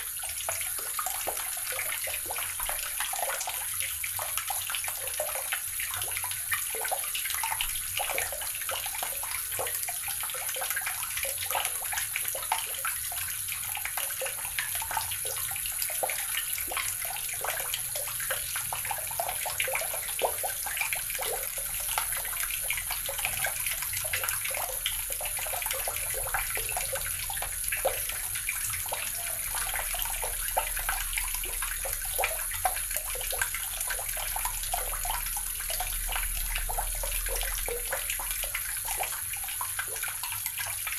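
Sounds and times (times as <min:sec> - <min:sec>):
water running from a tap: 0:00.0 - 0:40.9.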